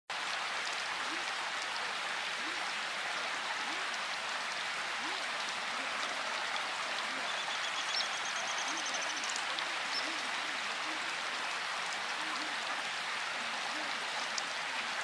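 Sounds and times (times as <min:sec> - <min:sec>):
steady rain falling: 0:00.1 - 0:15.0.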